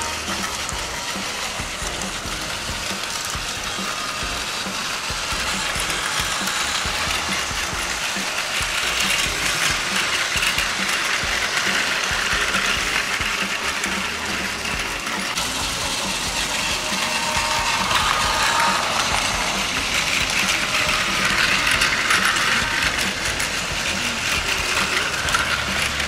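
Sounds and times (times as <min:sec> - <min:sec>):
toy train motors whirring: 0:00.0 - 0:26.0
wheels clattering on track: 0:00.0 - 0:26.0.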